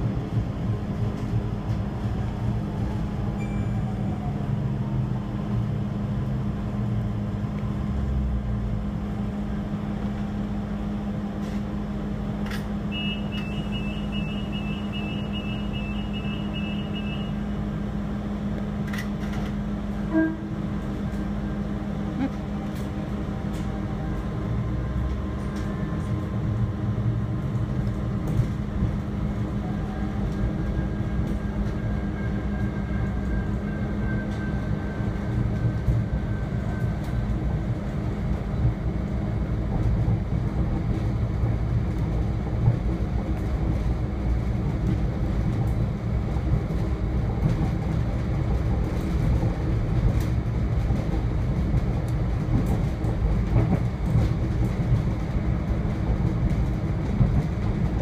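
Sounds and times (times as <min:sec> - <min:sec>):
train engine and wheels rumbling: 0:00.0 - 0:58.0.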